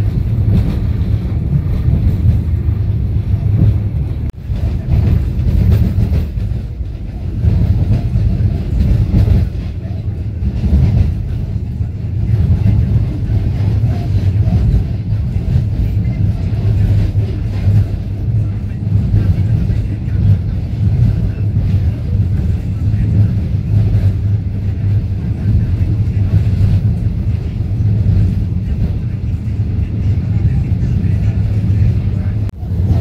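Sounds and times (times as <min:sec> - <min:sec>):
rail click: 0:00.0 - 0:33.0
train wheels rumbling on rails: 0:00.0 - 0:33.0.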